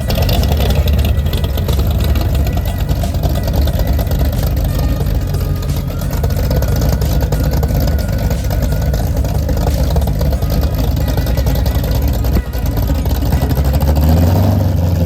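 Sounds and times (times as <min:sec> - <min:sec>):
loud car engine running: 0:00.0 - 0:15.0.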